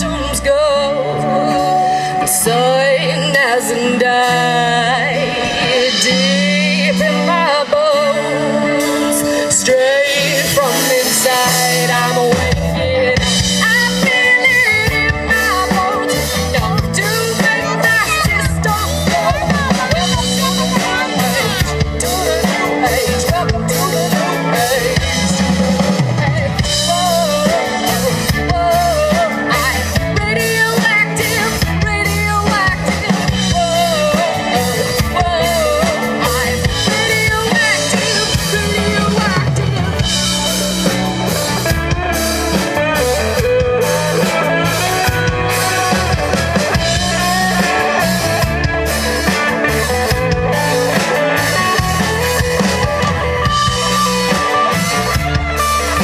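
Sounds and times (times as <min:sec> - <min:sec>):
rock band playing: 0:00.0 - 0:56.0
wavering lead melody: 0:10.4 - 0:56.0.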